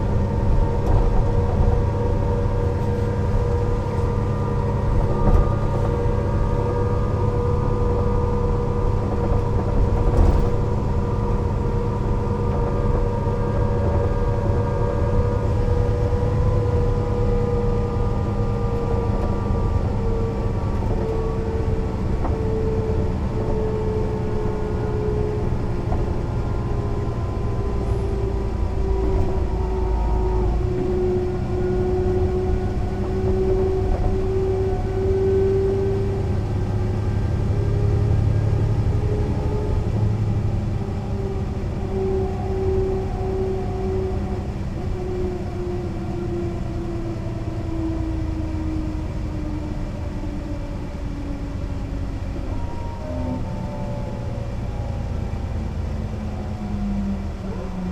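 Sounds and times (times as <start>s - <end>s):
bus engine drone: 0.0s - 57.9s
drivetrain whine: 0.0s - 57.9s.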